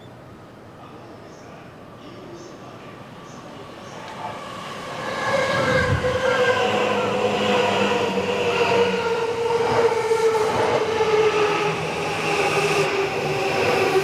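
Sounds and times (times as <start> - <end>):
train rolling rumble: 0.5 - 14.0.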